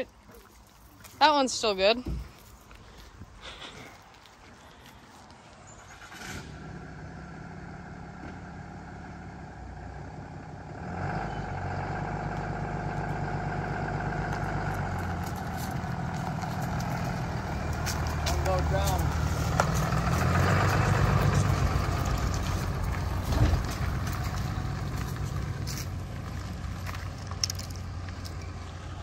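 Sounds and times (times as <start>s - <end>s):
vehicle engine running under load: 4.7s - 29.0s.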